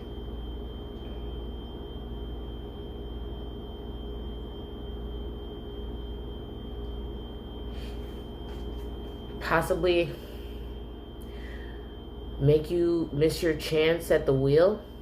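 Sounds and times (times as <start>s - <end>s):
faint high whine: 0.0s - 15.0s
low electrical hum: 0.0s - 15.0s.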